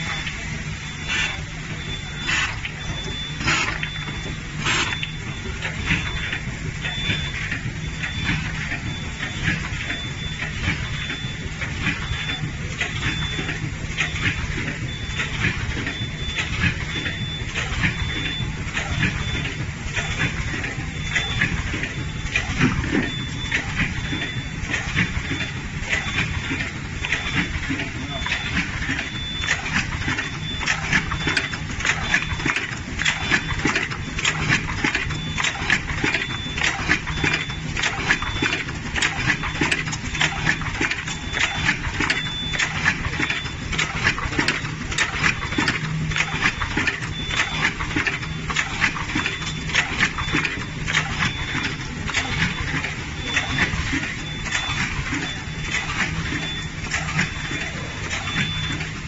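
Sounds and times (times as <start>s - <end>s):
low machine hum: 0.0s - 59.0s
machine clattering clicks: 1.1s - 59.0s.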